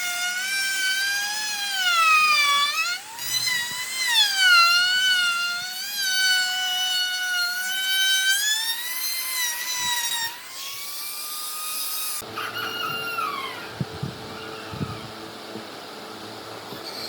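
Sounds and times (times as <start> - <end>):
power tool cutting wood: 0.0 - 13.8, 16.7 - 17.0.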